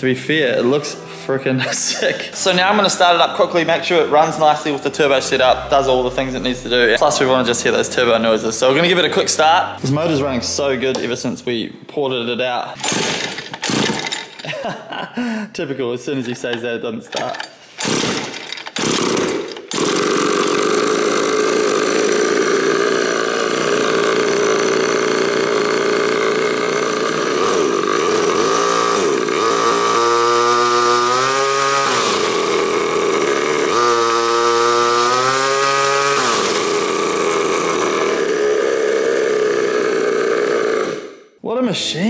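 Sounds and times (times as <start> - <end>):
kart engine revving: 1.6 - 11.2, 12.8 - 14.5, 17.2 - 41.2.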